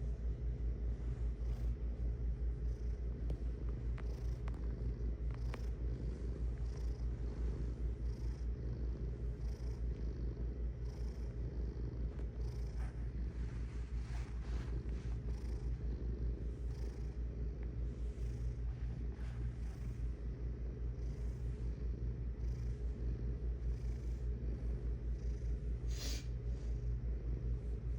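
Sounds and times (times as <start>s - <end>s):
cat purring: 0.0s - 27.9s.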